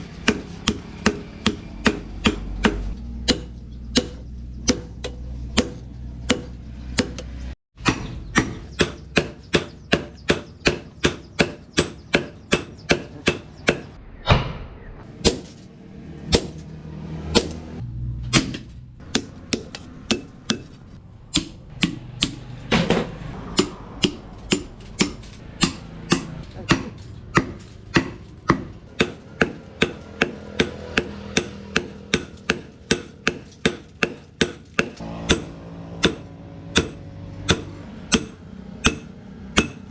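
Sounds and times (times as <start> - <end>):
hammer striking steel on anvil: 0.1 - 13.9, 15.2 - 15.7, 16.3 - 16.7, 17.3 - 17.6, 18.3 - 22.5, 23.4 - 39.9.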